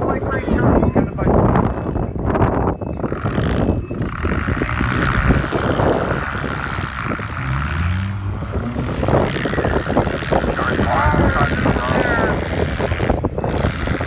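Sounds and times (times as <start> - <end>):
car engines running: 0.0 - 14.0
wind rumbling on microphone: 0.0 - 14.0
car engine revving: 1.4 - 14.0.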